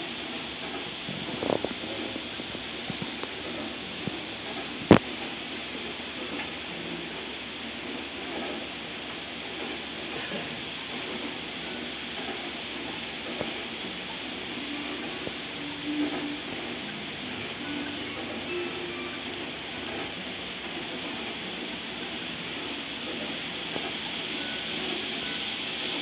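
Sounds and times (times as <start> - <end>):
model train running: 0.0 - 26.0
steady hiss: 0.0 - 26.0.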